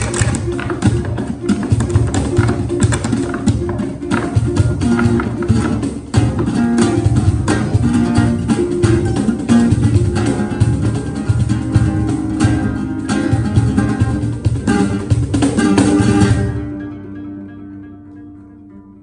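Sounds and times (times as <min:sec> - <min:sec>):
cajon beat: 0:00.0 - 0:18.9
plucked acoustic guitar: 0:00.0 - 0:19.0
plucked kora notes: 0:00.0 - 0:19.0.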